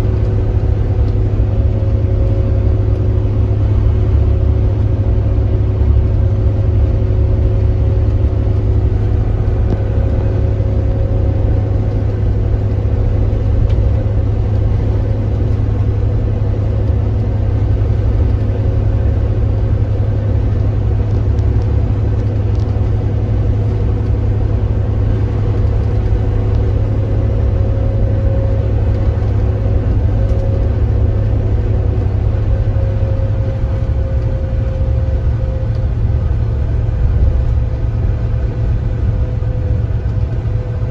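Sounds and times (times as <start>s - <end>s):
coach engine drone: 0.0s - 40.9s.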